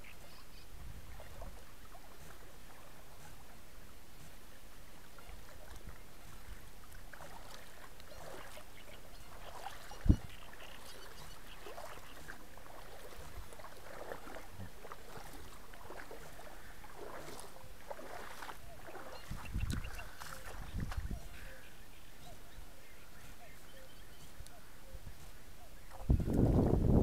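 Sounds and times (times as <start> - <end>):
water sloshing and splashing: 0.0 - 27.0.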